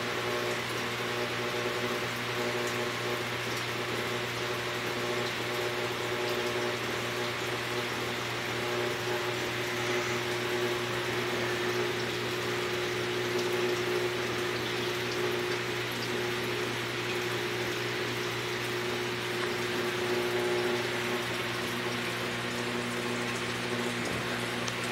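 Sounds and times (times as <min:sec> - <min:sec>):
pump hum: 0:00.0 - 0:24.9.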